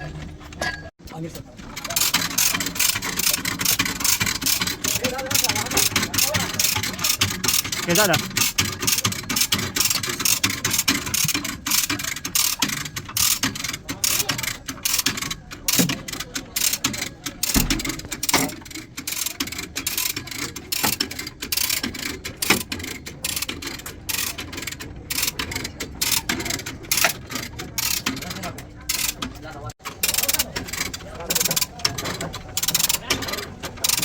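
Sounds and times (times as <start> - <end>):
metallic clicking and tapping: 1.8 - 34.0.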